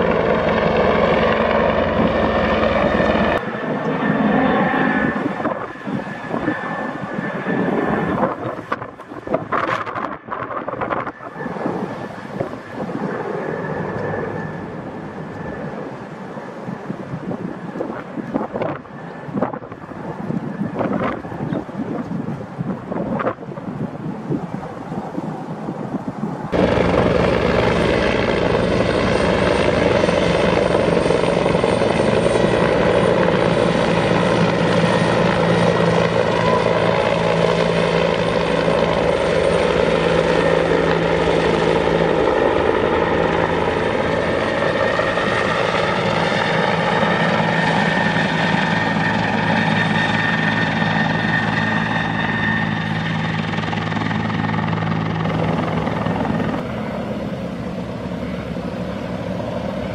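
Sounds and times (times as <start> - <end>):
helicopter rotor and turbine: 0.0 - 59.9.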